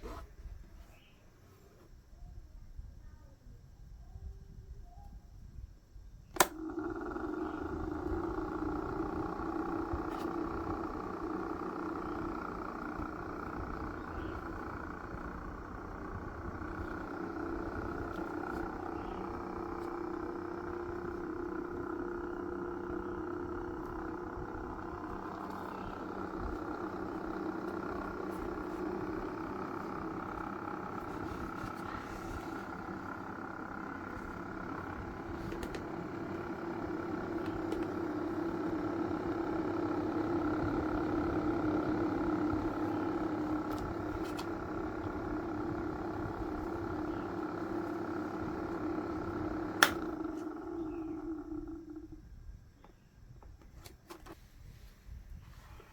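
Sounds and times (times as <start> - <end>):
electric motor fan humming: 0.0 - 55.9.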